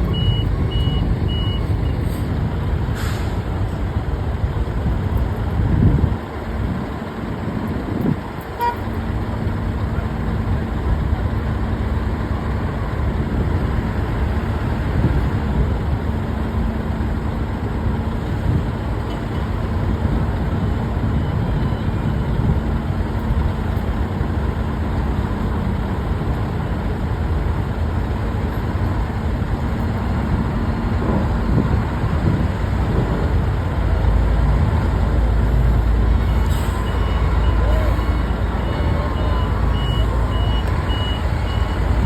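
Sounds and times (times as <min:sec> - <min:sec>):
heavy engines rumbling: 0:00.0 - 0:42.0.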